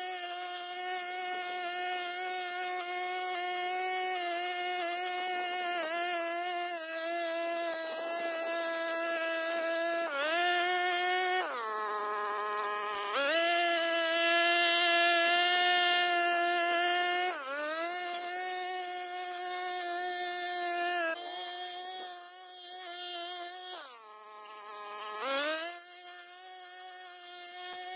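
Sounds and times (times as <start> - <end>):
brush cutter engine buzzing: 0.0 - 27.9.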